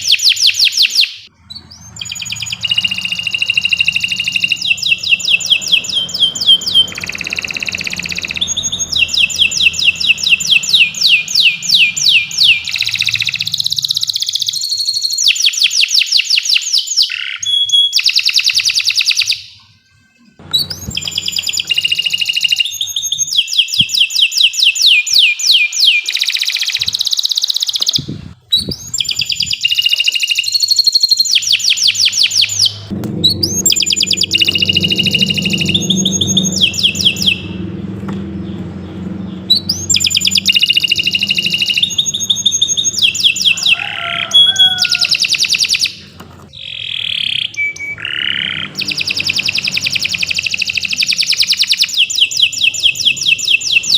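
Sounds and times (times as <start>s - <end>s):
canary singing fast trills: 0.0s - 53.9s.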